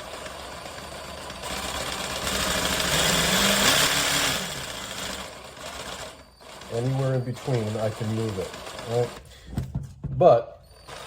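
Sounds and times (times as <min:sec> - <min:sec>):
cordless jigsaw running: 0:00.0 - 0:09.4.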